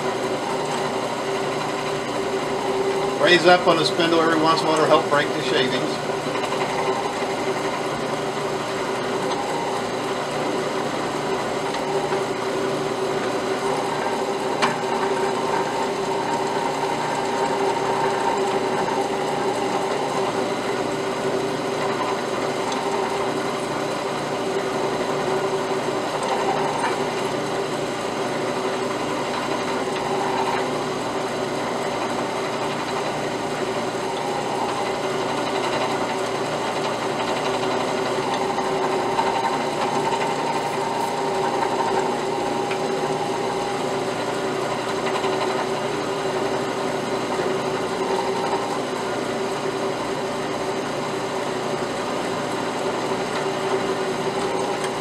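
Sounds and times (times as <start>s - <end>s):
drill press drilling metal: 0.0s - 55.0s.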